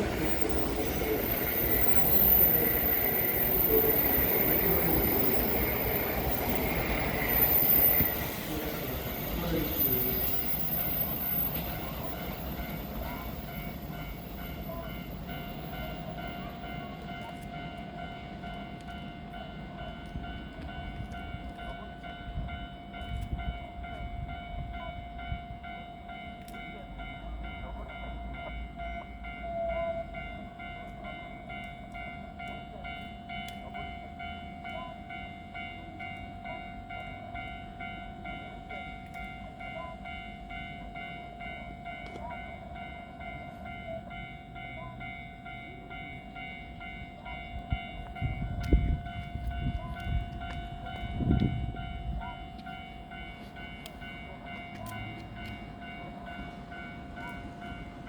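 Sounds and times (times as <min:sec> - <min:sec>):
train electrical whine: 0:00.0 - 0:58.0.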